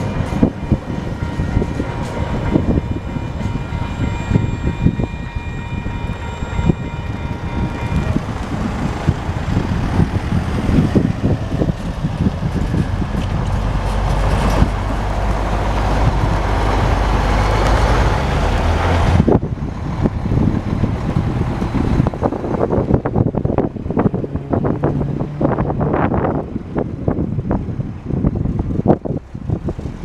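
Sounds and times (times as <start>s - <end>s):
locomotive engine drone: 0.0s - 30.0s.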